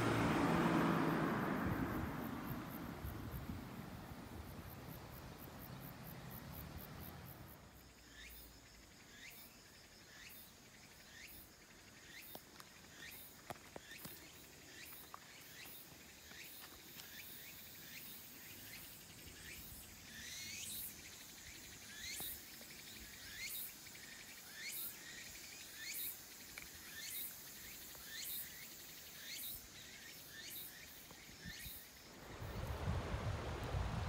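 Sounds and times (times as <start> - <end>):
insects chirping: 0.0 - 34.0
steady high insect buzz: 0.6 - 13.3, 13.9 - 34.0.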